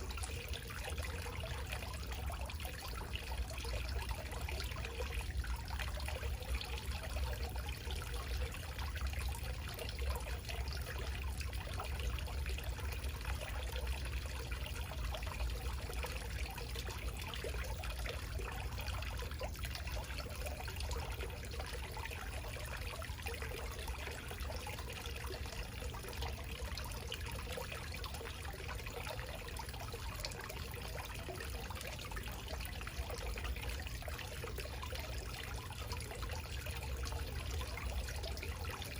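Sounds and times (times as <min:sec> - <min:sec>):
waterfall trickling and splashing: 0:00.0 - 0:38.9.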